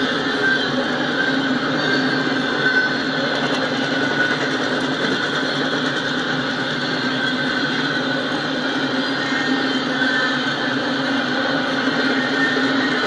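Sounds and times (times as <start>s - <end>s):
steel train wheels on rails: 0.0s - 13.0s.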